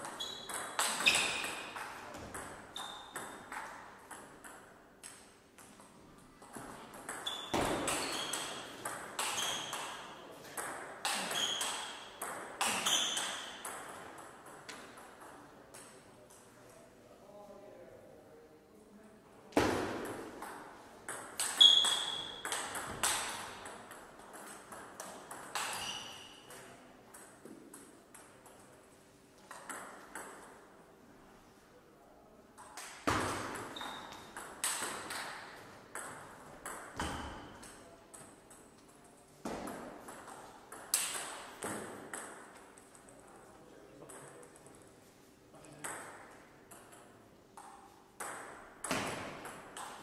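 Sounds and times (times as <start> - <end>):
ping-pong ball bouncing on table: 0.0 - 15.9, 19.7 - 28.7, 29.5 - 30.6, 32.6 - 43.2, 44.1 - 44.7, 45.7 - 50.0
ping-pong ball hitting paddles: 0.0 - 16.4, 19.6 - 30.8, 32.6 - 43.2, 44.0 - 44.8, 45.7 - 50.0.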